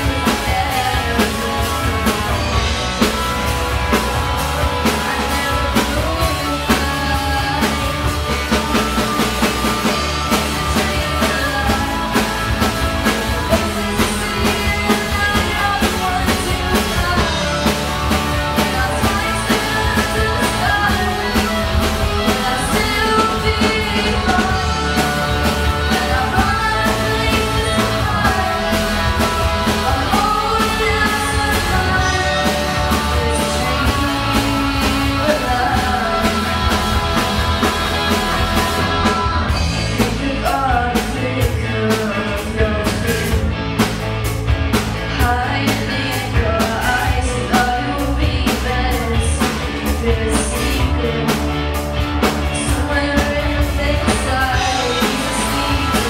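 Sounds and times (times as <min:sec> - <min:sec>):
person singing: 0:00.0 - 0:43.5, 0:45.0 - 0:56.0
live rock band playing: 0:00.0 - 0:56.0
steady drum beat: 0:00.0 - 0:56.0.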